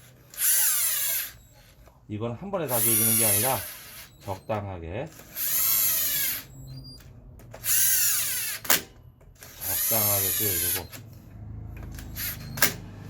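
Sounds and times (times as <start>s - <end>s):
electric power driver spinning: 0.0s - 1.9s, 2.7s - 4.5s, 5.1s - 11.1s, 11.7s - 13.0s.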